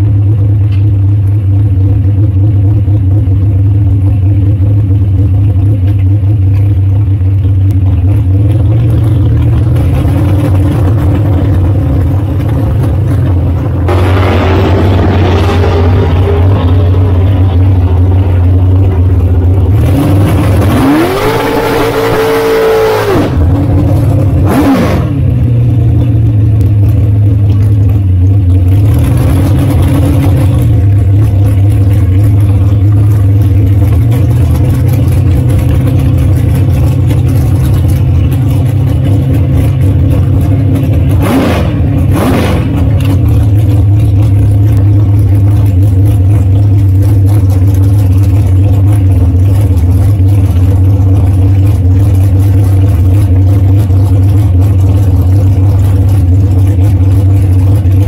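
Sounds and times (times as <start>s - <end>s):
dragster engine revving: 0.1s - 58.0s.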